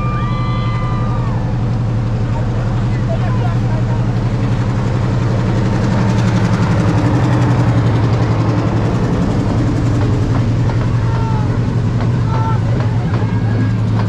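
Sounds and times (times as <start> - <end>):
diesel locomotive engine throbbing: 0.0 - 14.0.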